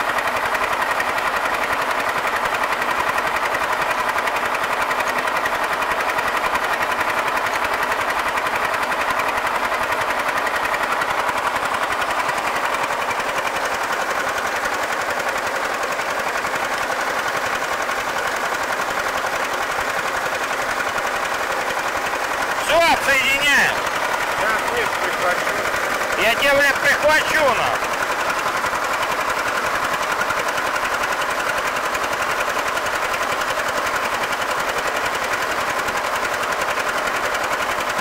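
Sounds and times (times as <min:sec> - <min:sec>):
engine running with rattle: 0:00.0 - 0:38.0.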